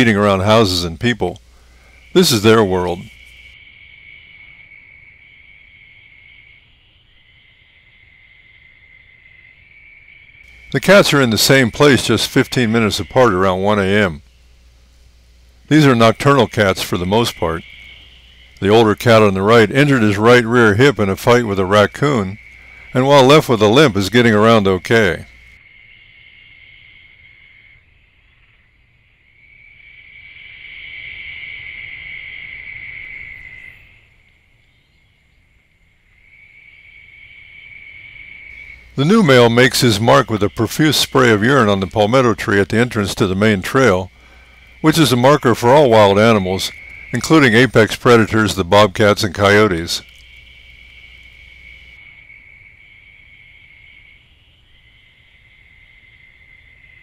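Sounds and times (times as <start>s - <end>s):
night insects trilling: 0.0s - 57.0s.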